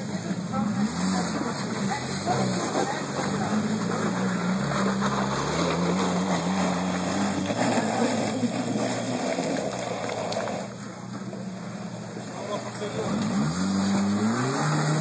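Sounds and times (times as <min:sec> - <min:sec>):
engine working under load: 0:00.0 - 0:15.0.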